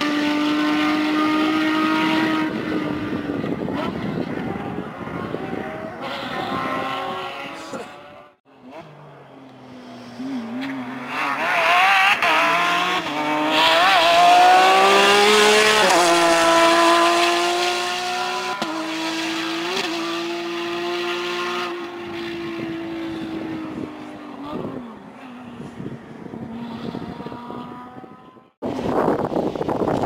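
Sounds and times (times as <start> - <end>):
car engine accelerating hard: 0.0 - 28.9.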